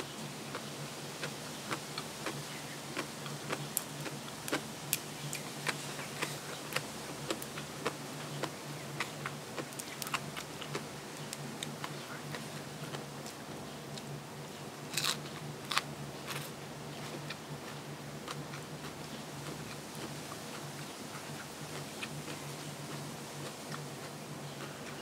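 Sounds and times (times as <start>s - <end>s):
steady low hum: 0.0s - 25.0s
chewing crunches: 0.5s - 13.1s, 14.9s - 25.0s.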